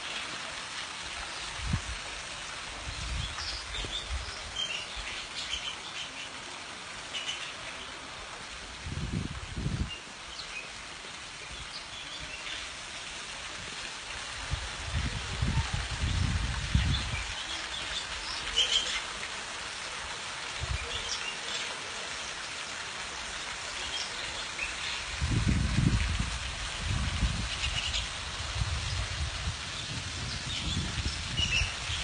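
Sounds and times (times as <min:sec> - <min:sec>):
waterfall splashing into pool: 0:00.0 - 0:32.0.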